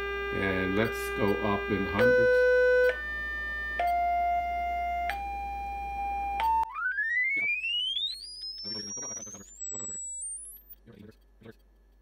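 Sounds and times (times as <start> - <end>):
sine wave test tone rising: 0.0 - 10.8.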